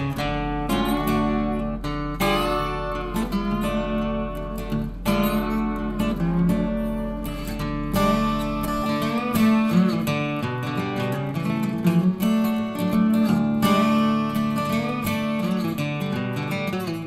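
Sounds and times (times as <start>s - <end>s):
guitar chords ringing: 0.0s - 17.0s.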